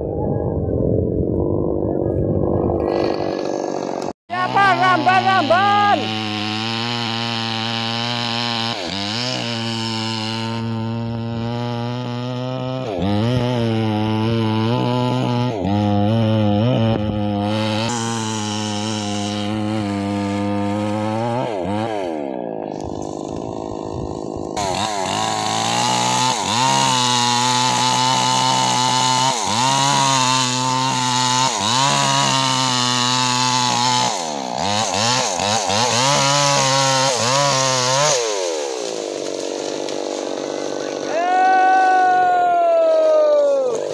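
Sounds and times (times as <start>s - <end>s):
chainsaw cutting wood: 2.8s - 43.9s.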